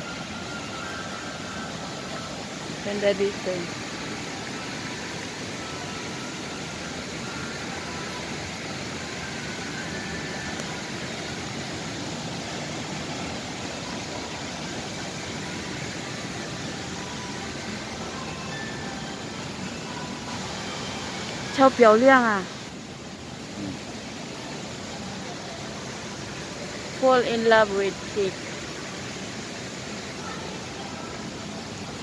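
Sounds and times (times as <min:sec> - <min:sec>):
city background noise: 0:00.0 - 0:32.0.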